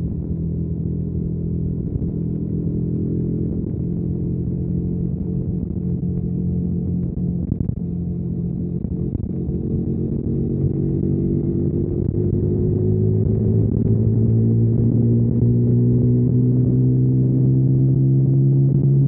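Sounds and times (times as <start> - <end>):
motorcycle engine drone: 0.0 - 19.0.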